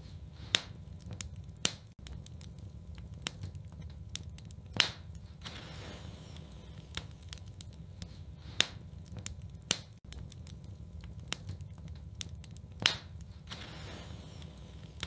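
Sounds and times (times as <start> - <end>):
fire crackling: 0.0 - 15.0
loud fire pops: 0.4 - 15.0.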